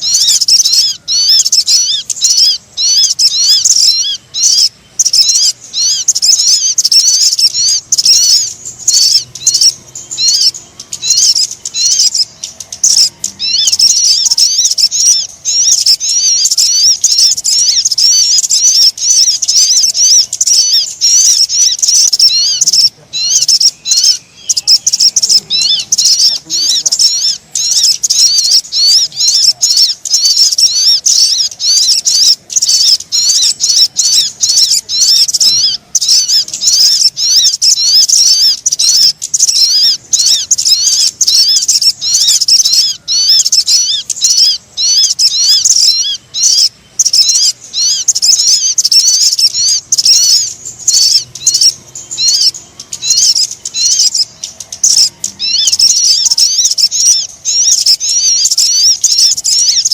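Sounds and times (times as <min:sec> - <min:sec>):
high-pitched bird chirping: 0:00.0 - 0:59.9.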